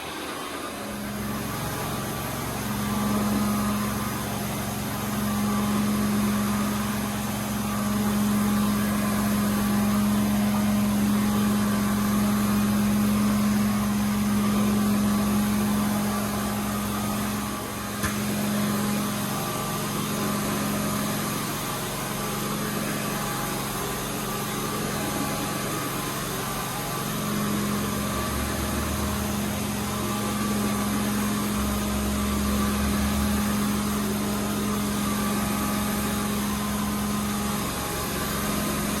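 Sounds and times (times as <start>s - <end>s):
carpet cleaning machine running: 0.0s - 39.0s.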